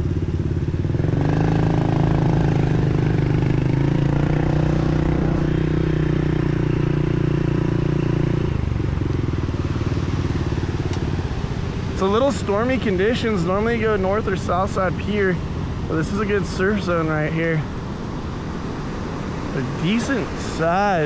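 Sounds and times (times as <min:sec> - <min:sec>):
pit bike engine running: 0:00.0 - 0:16.9.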